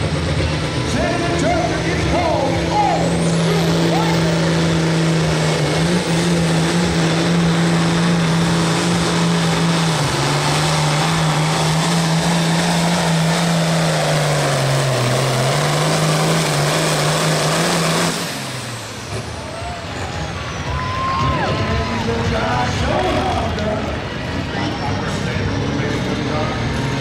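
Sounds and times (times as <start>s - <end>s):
tractor engine running flat out: 0.0s - 27.0s.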